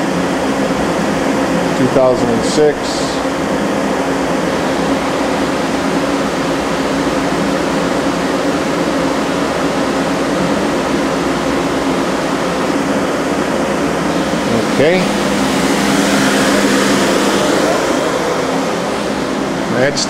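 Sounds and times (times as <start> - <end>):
machine fan rushing with low hum: 0.0 - 20.0.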